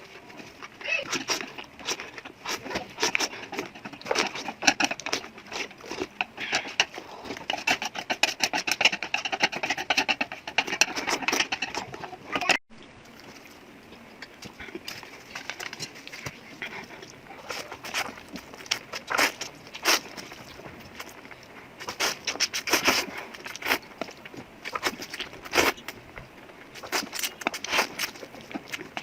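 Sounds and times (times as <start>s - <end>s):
chewing and slurping noodles: 0.0s - 26.0s, 26.6s - 29.0s.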